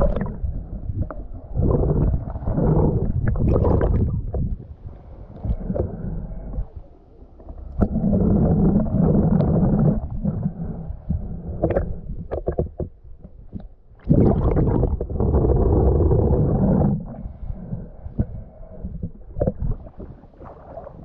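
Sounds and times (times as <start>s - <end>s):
sea water sloshing and rumbling: 0.0s - 21.0s.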